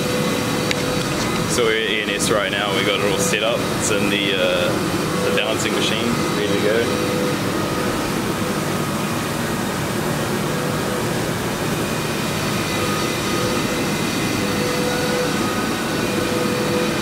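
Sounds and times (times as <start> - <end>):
workshop machinery hum and hiss: 0.0 - 17.0.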